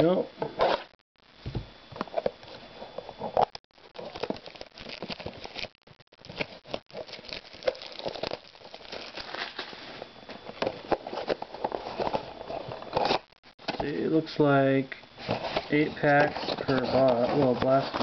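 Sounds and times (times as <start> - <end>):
packaging crinkling and rustling: 2.1 - 13.9, 15.2 - 18.0.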